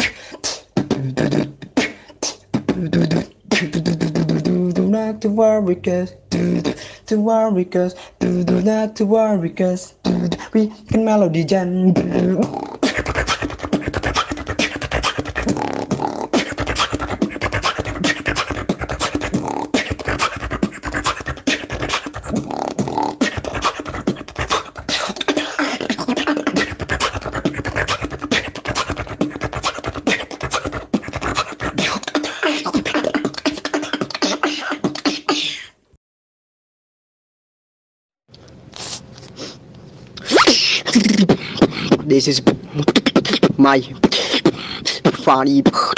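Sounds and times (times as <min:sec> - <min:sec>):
beatboxing: 0:00.0 - 0:35.8, 0:40.2 - 0:45.9.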